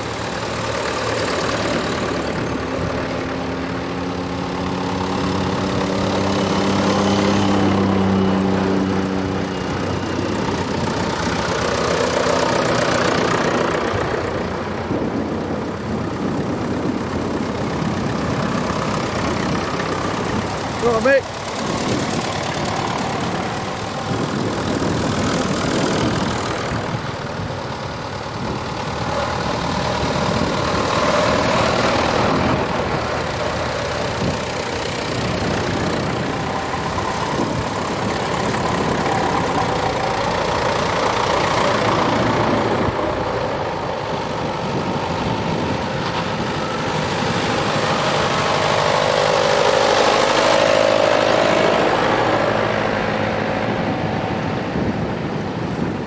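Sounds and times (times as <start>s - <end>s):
tractor engines passing: 0.0s - 56.0s.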